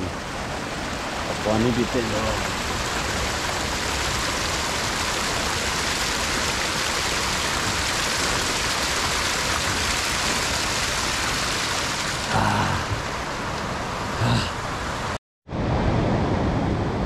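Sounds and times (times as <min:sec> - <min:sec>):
fast-flowing stream water: 0:00.0 - 0:15.2.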